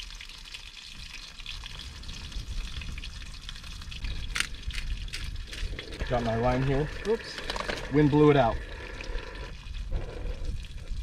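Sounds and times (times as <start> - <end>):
fish frying in oil: 0.0 - 11.0
wind on microphone: 1.6 - 11.0.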